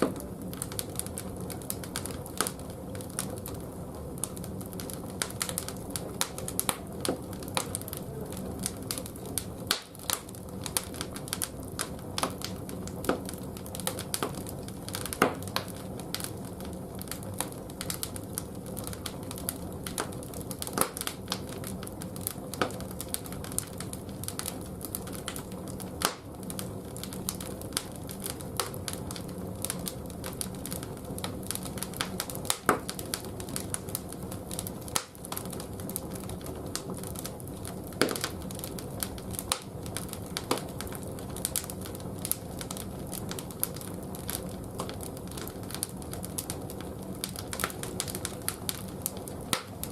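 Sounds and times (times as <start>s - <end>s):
firewood crackling and popping: 0.0s - 49.9s.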